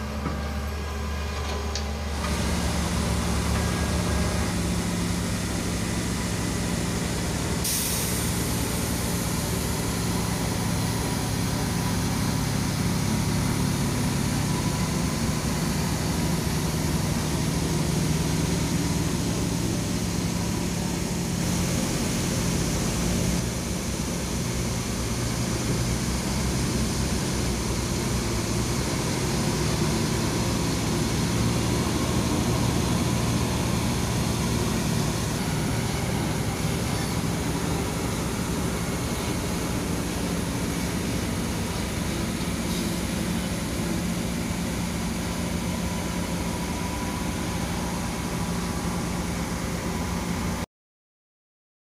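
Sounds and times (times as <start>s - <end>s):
diesel truck engine droning: 0.0s - 50.7s.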